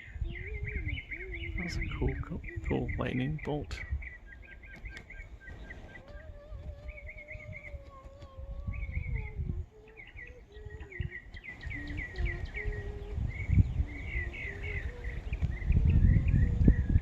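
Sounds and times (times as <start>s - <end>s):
low uneven rumble: 0.0s - 17.0s
songbirds chirping: 0.0s - 17.0s.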